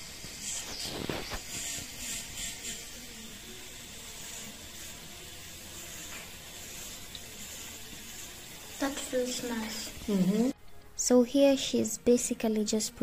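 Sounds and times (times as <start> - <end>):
electric nail drill filing: 0.0 - 10.6.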